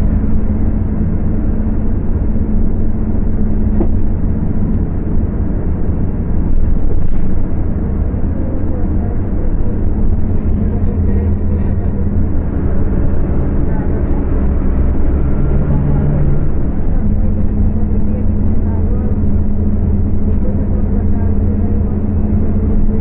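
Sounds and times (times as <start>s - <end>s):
bus diesel engine droning: 0.0s - 23.0s
road noise: 0.0s - 23.0s.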